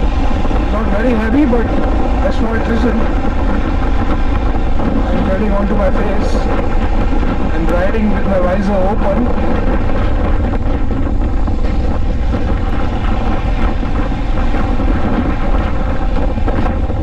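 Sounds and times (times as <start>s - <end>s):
motorcycle engine running: 0.0s - 17.0s
wind rumbling on microphone: 0.0s - 17.0s.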